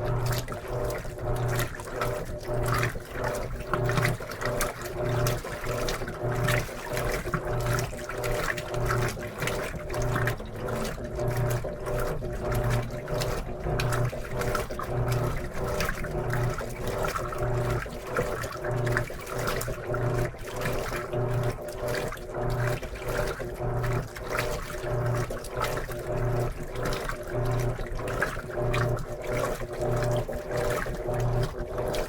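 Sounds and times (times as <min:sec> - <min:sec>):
washing machine motor pulsing hum: 0:00.0 - 0:32.0
water sloshing: 0:00.0 - 0:32.0.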